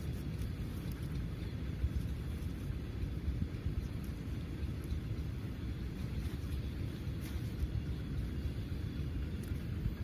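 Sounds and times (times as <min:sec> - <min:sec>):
steady low rumbling: 0:00.0 - 0:10.0.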